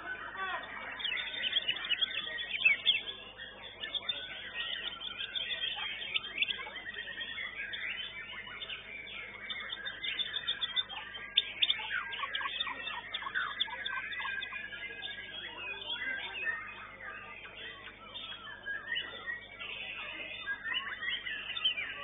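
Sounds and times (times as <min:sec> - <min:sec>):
many songbirds singing: 0:00.0 - 0:22.0.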